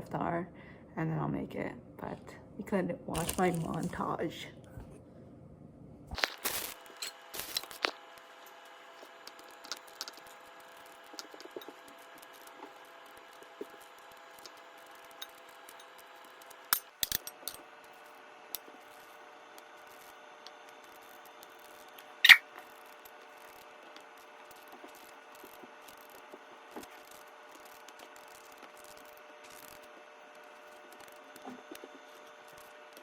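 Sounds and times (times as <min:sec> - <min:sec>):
steady faint hum: 0:00.0 - 0:33.0.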